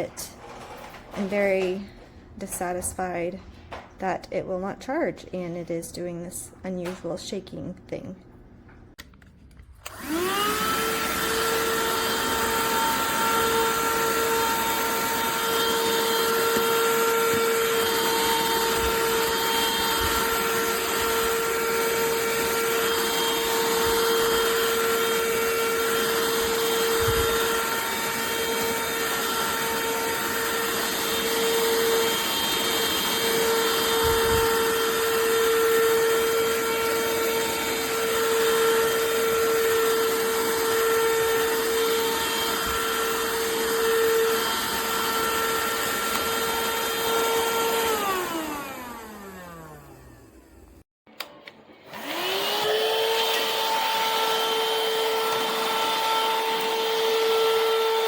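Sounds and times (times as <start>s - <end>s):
handheld vacuum motor whining: 9.7s - 58.0s.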